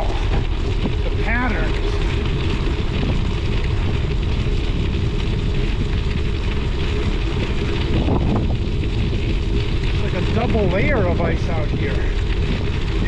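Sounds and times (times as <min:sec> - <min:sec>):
bicycle tyre rolling over ice: 0:00.0 - 0:13.0
wind buffeting microphone: 0:00.0 - 0:13.0.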